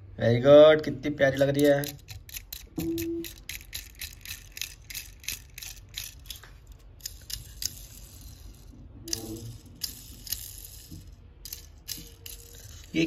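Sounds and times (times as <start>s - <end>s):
plastic toy car clicking: 1.4s - 13.0s.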